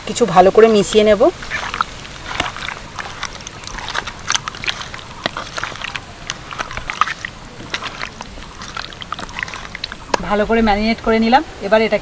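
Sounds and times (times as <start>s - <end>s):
wet squelching of meat in marinade: 0.5s - 10.4s.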